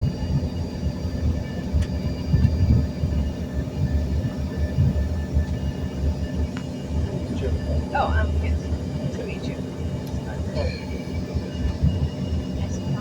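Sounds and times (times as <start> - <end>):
jet engine whine: 0.0 - 13.0
uneven low rumble: 0.0 - 13.0.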